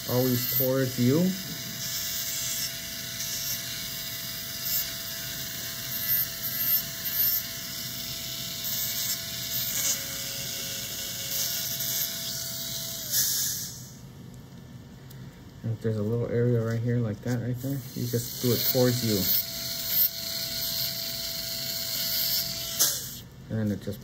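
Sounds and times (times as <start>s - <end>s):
dental handpiece motor whine: 0.0s - 14.1s, 17.6s - 23.3s.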